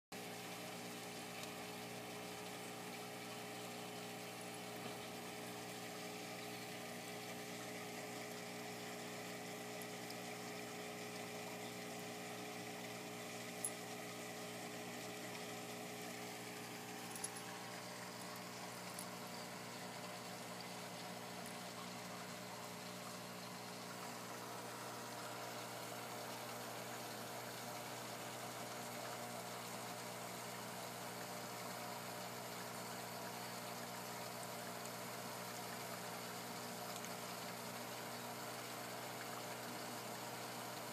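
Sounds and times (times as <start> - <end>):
aquarium air pump humming: 0.2 - 40.9.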